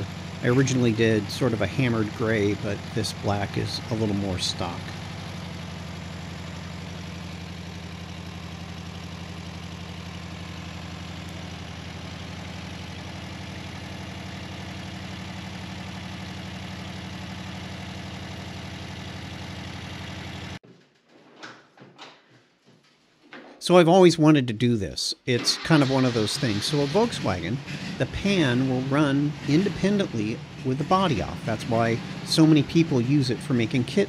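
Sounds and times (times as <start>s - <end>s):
car engine idling: 0.0s - 20.6s, 25.3s - 34.0s.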